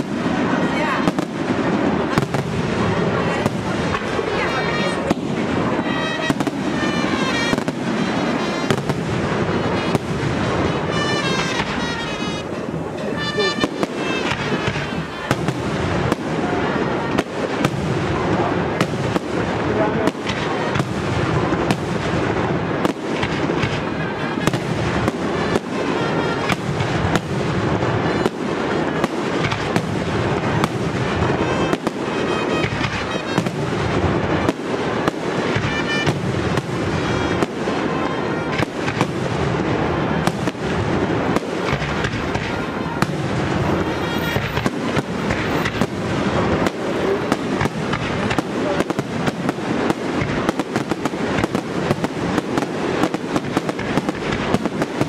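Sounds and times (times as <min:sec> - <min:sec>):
fireworks bursts and bangs: 0:00.0 - 0:55.0.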